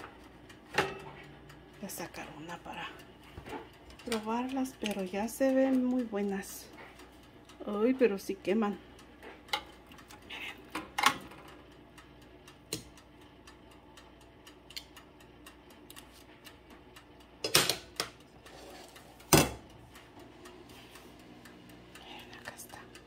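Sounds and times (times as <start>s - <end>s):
dial timer ticking: 0.0s - 23.0s.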